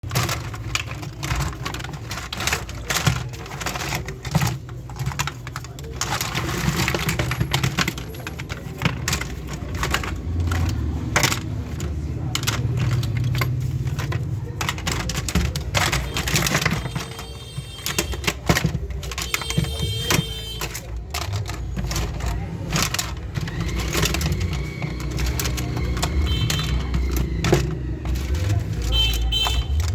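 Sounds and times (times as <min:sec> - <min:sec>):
plastic toy gun clattering: 0:00.0 - 0:29.9.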